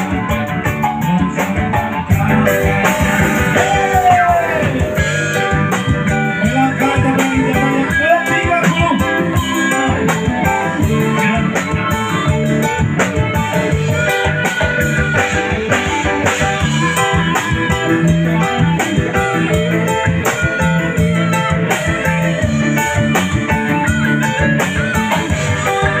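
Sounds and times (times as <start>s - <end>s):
drum kit beat: 0.0s - 26.0s
electric guitar: 0.0s - 26.0s
live band playing: 0.0s - 26.0s.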